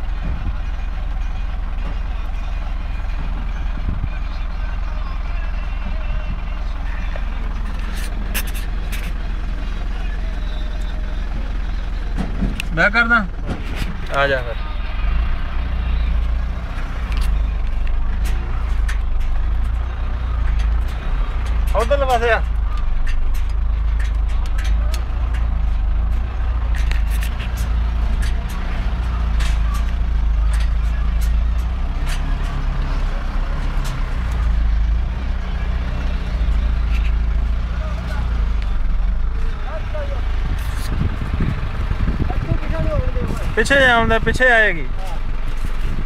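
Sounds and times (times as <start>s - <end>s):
heavy vehicle engine rumbling: 0.0s - 46.0s.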